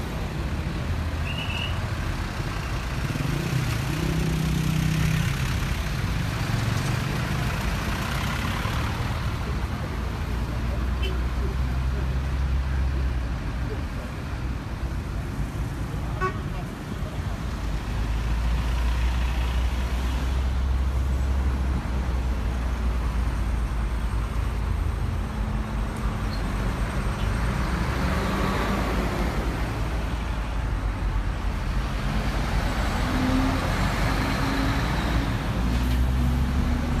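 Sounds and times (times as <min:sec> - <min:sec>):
low traffic rumble: 0:00.0 - 0:37.0
vehicles passing close by: 0:00.0 - 0:37.0.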